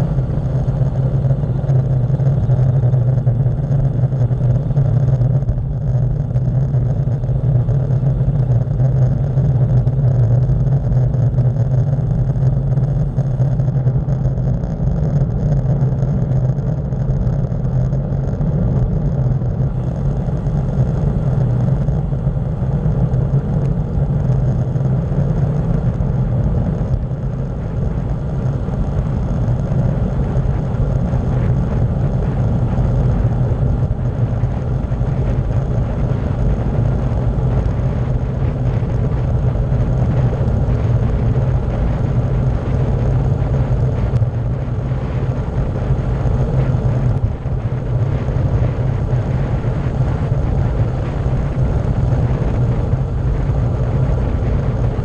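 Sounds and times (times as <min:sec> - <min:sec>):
wind rush over microphone: 0:00.0 - 0:55.0.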